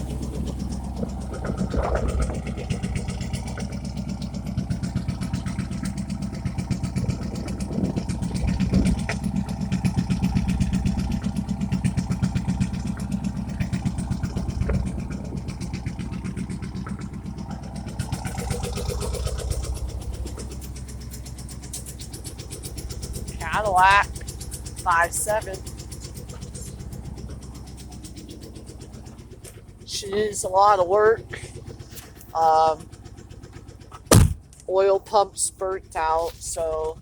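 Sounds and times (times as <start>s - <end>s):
engine running with pulsing exhaust: 0.0s - 37.0s.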